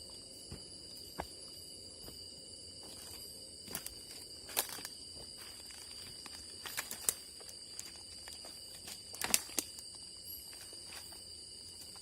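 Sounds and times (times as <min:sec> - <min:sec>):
insects trilling at night: 0:00.0 - 0:12.0
snaps of footsteps in undergrowth: 0:00.4 - 0:12.0.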